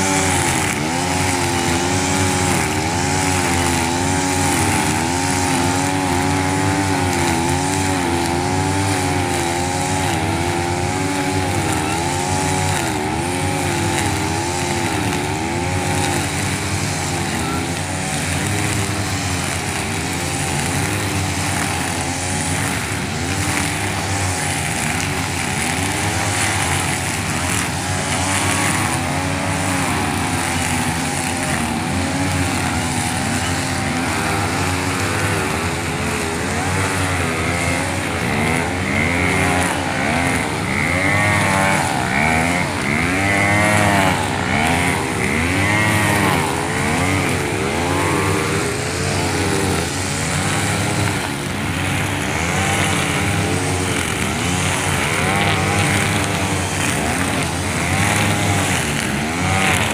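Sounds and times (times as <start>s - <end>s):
brush cutter engines running: 0.0s - 59.9s
trimmer line cutting grass: 0.0s - 59.9s.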